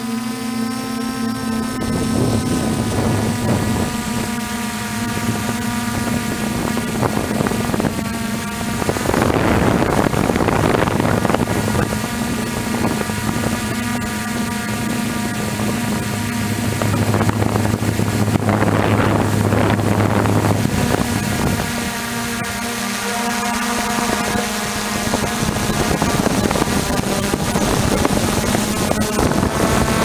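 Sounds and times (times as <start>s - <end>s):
drone motors humming: 0.0s - 30.0s
wind noise: 1.2s - 30.0s.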